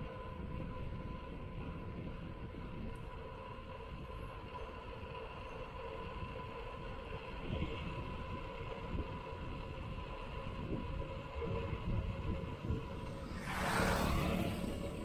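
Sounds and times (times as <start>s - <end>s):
bicycle tyre rumble on road: 0.0s - 15.0s
wind buffeting microphone: 0.0s - 15.0s.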